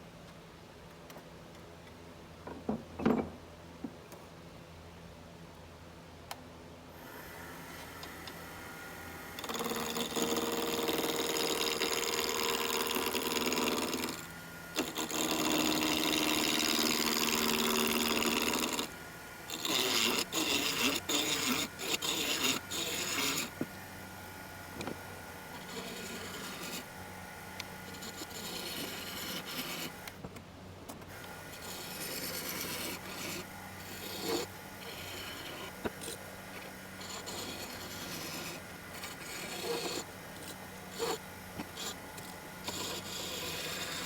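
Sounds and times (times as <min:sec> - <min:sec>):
electric power tool working wood: 0:07.0 - 0:30.2, 0:31.1 - 0:44.0.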